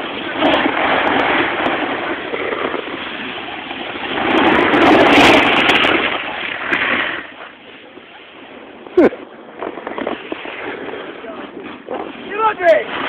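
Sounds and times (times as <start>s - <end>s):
snowboard rushing on snow: 0.0s - 13.0s.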